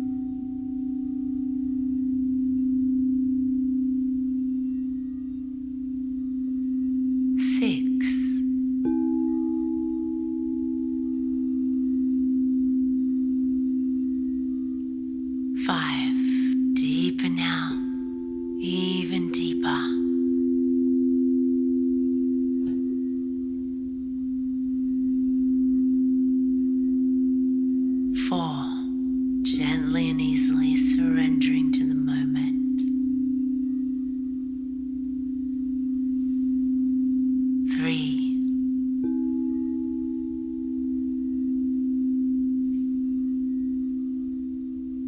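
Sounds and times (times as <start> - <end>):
singing bowl tone: 0.0 - 45.0.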